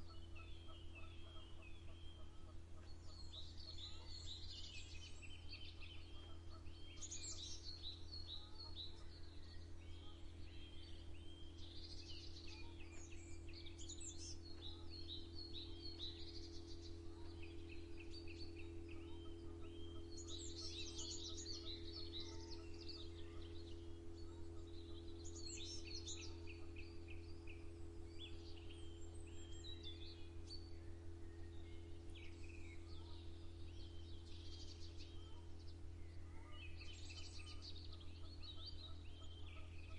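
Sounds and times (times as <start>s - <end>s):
songbirds singing: 0.0s - 39.9s
steady low hum: 0.0s - 39.9s.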